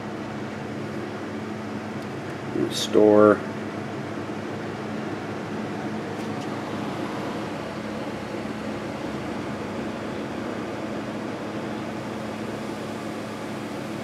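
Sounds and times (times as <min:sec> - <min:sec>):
machine hum with fan noise: 0:00.0 - 0:14.0.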